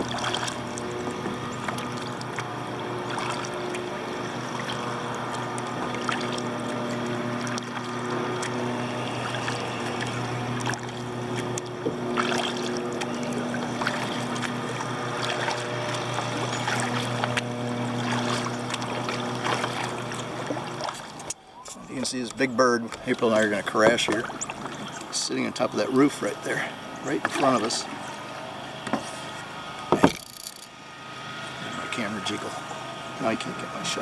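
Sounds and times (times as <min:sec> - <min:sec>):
water washing: 0:00.0 - 0:29.6
paddle splashes and drips: 0:00.0 - 0:29.7
low hum: 0:00.0 - 0:34.0.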